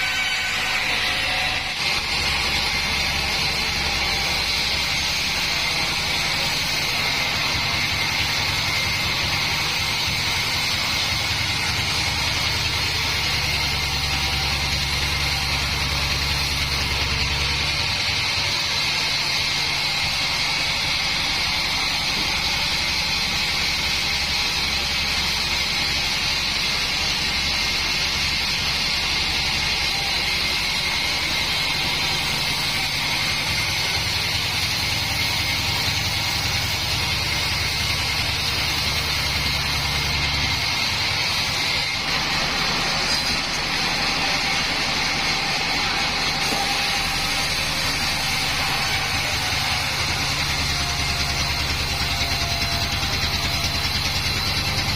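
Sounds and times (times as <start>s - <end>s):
band sawmill high whine: 0.0s - 54.9s
low machine rumble: 1.8s - 54.9s.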